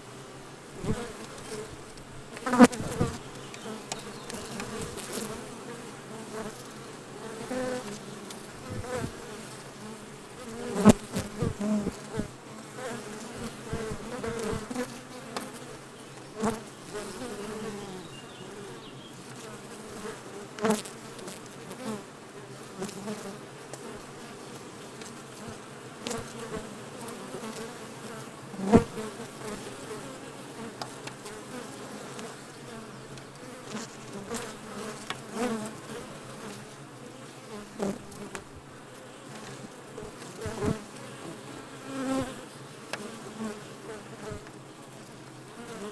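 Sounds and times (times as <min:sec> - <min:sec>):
bees buzzing: 0:00.1 - 0:20.8, 0:24.6 - 0:45.9.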